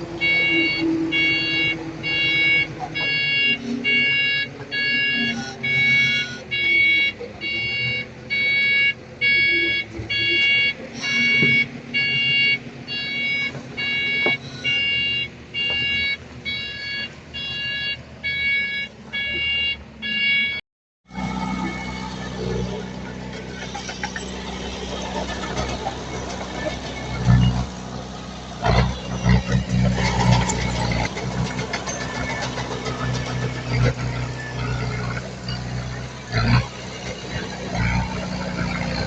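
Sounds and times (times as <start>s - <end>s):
diesel engine running: 0.0s - 19.2s, 21.1s - 39.0s
reversing alarm beeping: 0.0s - 39.0s.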